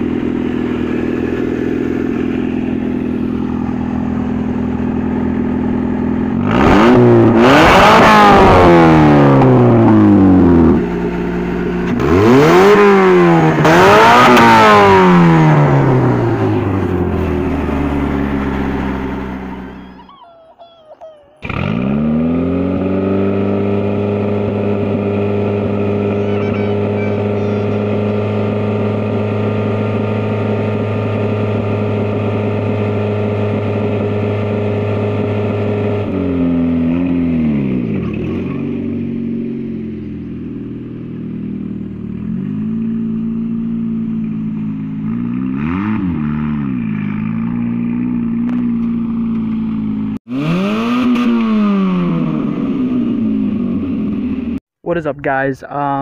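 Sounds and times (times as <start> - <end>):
race car engine revving: 0.0 - 20.2, 21.3 - 54.6.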